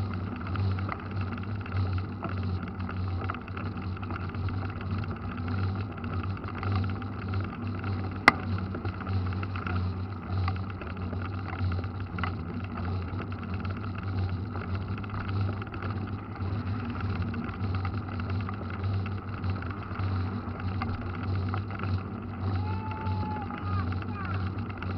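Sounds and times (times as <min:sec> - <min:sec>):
bicycle tyre noise on wet road: 0:00.0 - 0:24.9.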